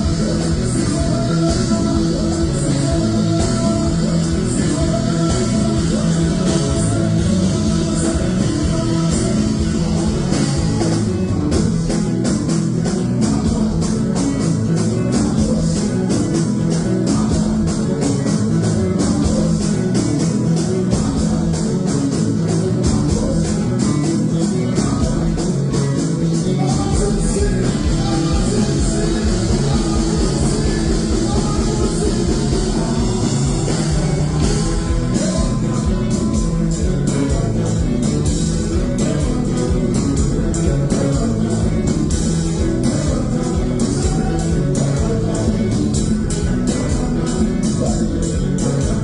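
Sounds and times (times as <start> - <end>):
band music with guitar bass drums: 0.0 - 49.0.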